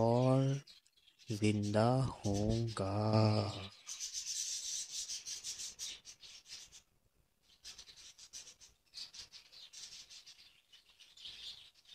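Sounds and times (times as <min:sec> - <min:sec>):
small birds twittering: 0:00.0 - 0:11.9.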